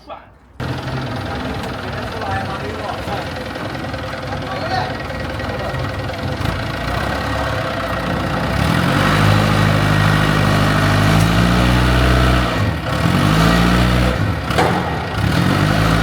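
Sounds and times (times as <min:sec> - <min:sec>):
heavy machine engine revving: 0:00.6 - 0:16.0.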